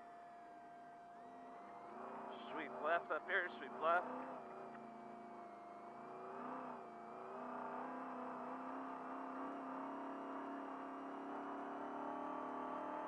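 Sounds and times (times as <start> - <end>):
race truck engine accelerating: 1.3 - 13.0.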